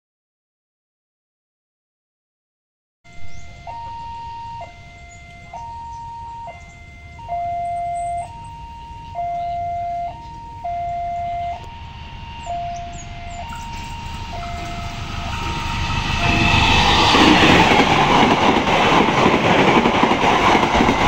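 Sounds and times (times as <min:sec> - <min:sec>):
level crossing alarm two tones: 0:03.1 - 0:21.0
steady low rumble: 0:03.1 - 0:21.0.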